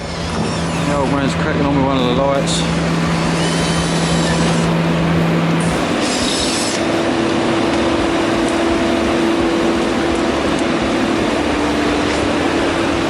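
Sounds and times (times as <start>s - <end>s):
blower rushing air and humming: 0.0s - 13.0s.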